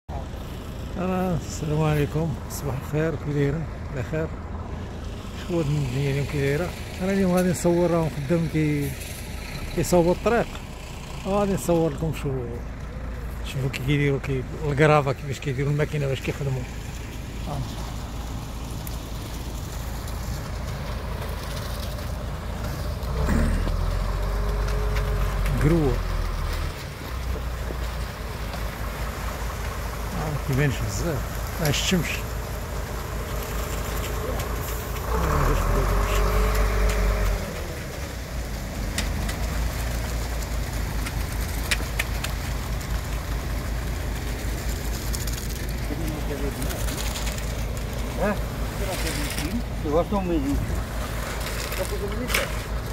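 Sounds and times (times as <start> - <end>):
diesel engine rumbling: 0.1 - 52.9
concrete pouring down chute: 0.3 - 52.9.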